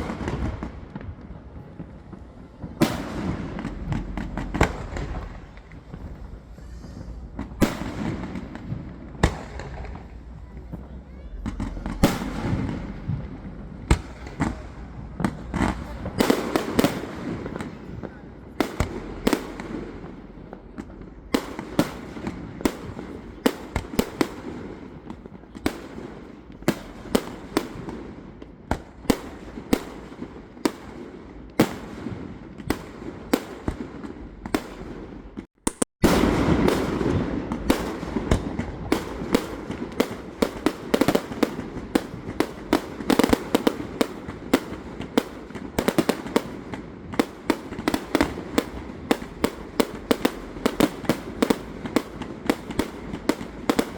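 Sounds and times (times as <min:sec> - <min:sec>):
fireworks bangs and cracks: 0:00.0 - 0:53.9
rumble of fireworks bursts: 0:00.0 - 0:53.9.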